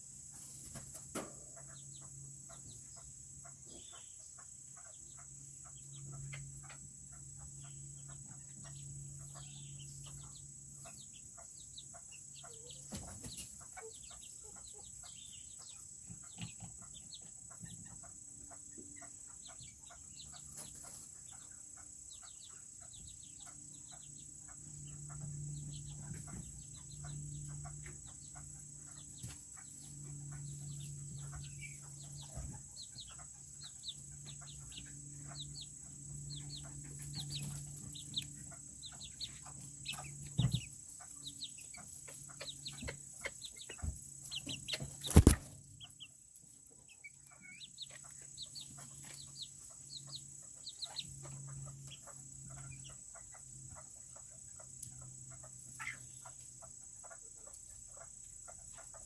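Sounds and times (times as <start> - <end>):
chickens chirping and clucking: 0.0 - 59.0.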